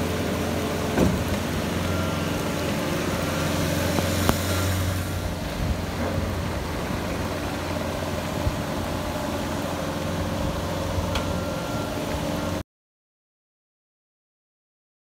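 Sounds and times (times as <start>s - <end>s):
loader engine running: 0.0s - 12.6s.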